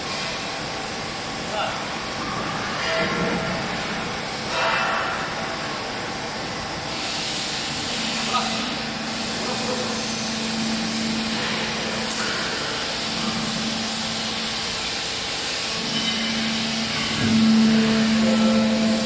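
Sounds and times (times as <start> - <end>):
hydraulic motor and pump humming: 0.0 - 19.0.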